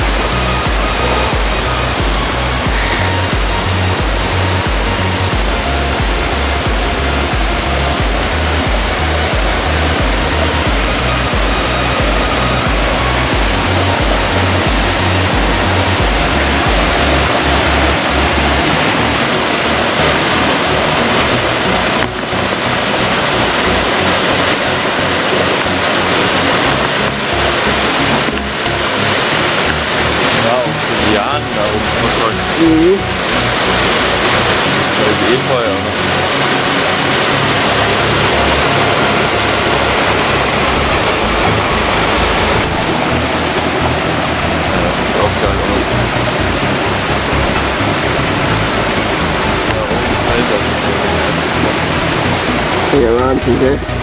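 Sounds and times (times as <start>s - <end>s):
electronic music bass notes: 0.0s - 54.0s
waterfall rushing: 0.0s - 54.0s.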